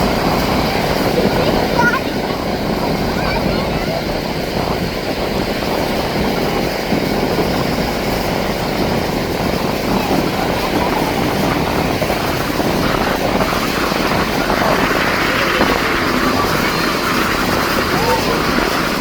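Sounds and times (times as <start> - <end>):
turboprop aircraft flying: 0.0 - 19.0.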